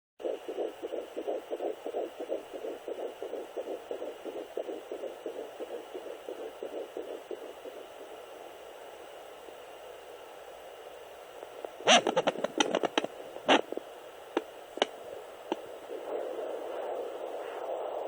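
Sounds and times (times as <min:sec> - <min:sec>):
fetal heartbeat on doppler speaker: 0:00.2 - 0:18.0.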